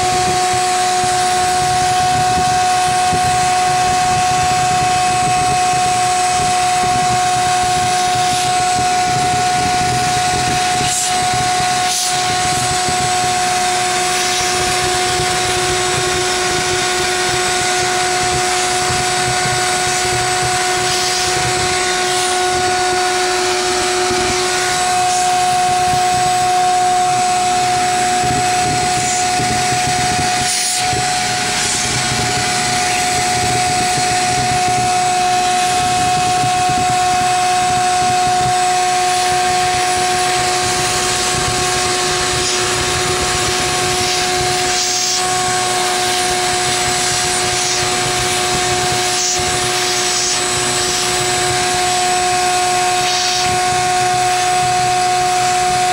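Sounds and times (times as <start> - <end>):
vacuum motor whine: 0.0 - 55.9.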